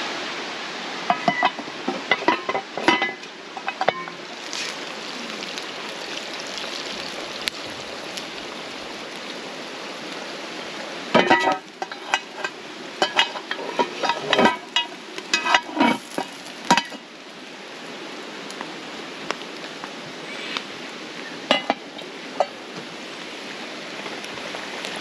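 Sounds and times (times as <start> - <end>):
food sizzling: 1.2 - 18.6, 21.2 - 25.0.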